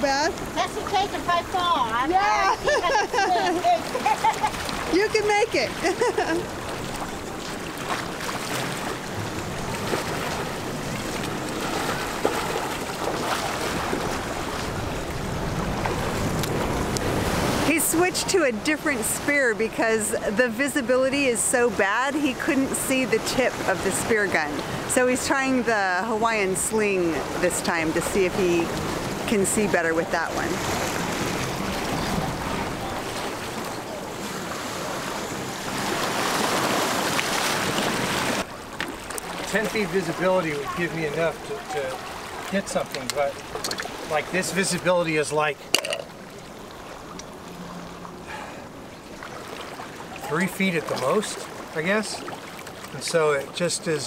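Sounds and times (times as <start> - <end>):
waves splashing against rocks: 0.0 - 54.0.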